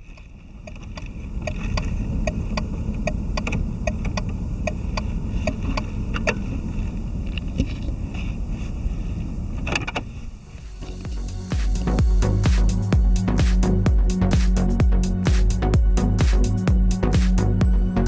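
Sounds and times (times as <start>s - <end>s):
car engine idling: 0.8s - 18.0s.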